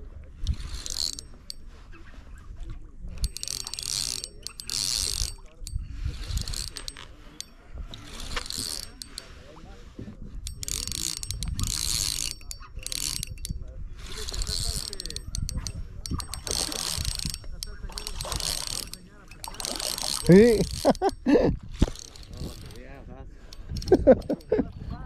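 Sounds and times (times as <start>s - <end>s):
fishing reel gears whirring: 0.2s - 25.0s
light ticks of reel: 0.4s - 2.0s, 2.6s - 9.7s, 10.4s - 24.6s.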